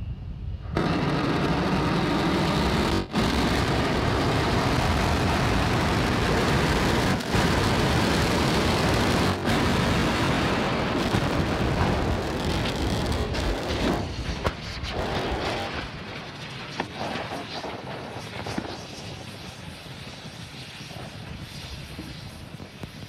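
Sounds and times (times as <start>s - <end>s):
rocket engines firing: 0.1s - 23.0s.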